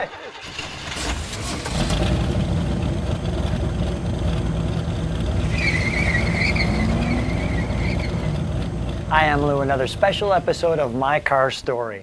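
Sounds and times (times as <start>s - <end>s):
car engine idling: 0.1s - 11.5s.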